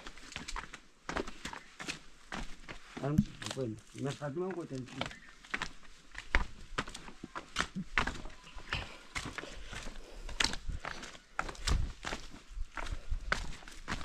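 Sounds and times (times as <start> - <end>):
footsteps crunching on dirt trail: 0.0 - 14.0.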